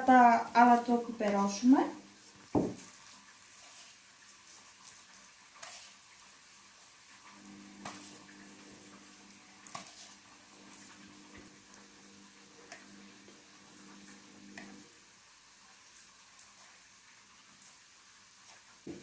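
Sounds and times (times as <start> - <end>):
salt and pepper sprinkling rustle: 0.0 - 15.0, 15.6 - 19.0.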